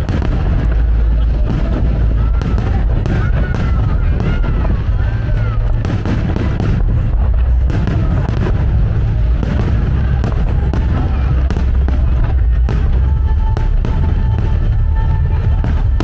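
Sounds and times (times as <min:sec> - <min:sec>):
music playing: 0:00.0 - 0:16.0
steady low rumble: 0:00.0 - 0:16.0.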